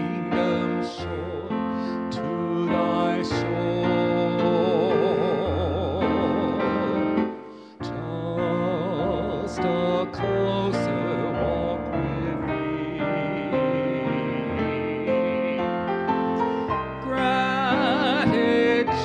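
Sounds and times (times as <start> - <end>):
person singing with vibrato: 0.0 - 19.0.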